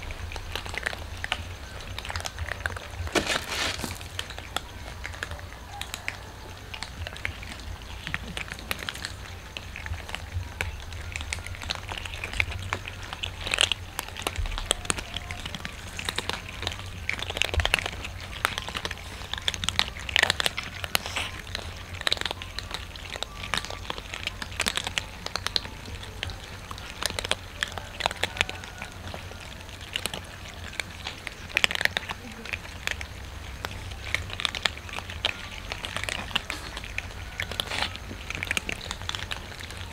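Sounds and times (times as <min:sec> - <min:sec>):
cats crunching dry kibble: 0:00.0 - 0:39.9.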